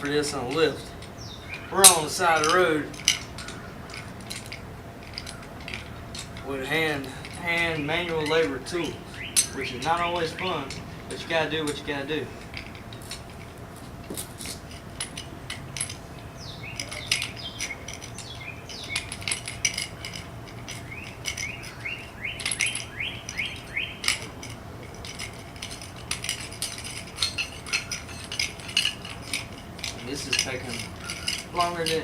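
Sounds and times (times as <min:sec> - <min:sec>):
jack handle metal clinking: 0:00.0 - 0:32.0.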